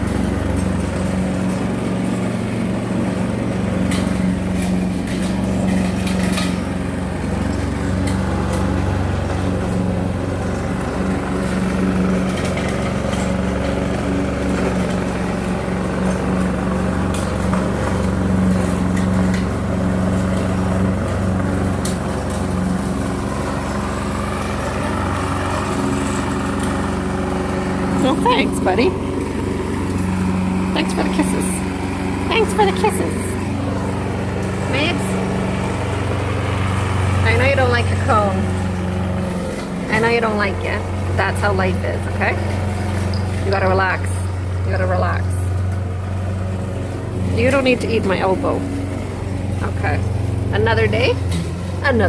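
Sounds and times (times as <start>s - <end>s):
lawnmower engine running: 0.0s - 52.0s.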